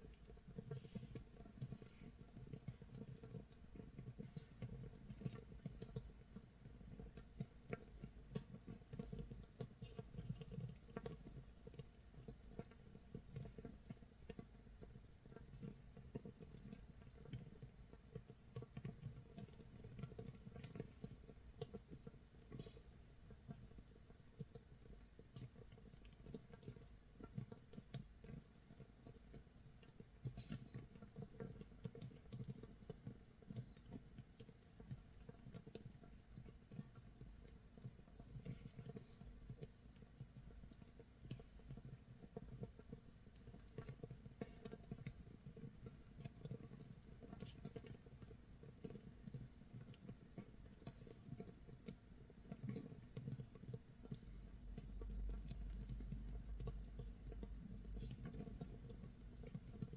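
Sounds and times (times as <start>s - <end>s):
fermenting mash bubbles popping: 0.0s - 59.9s.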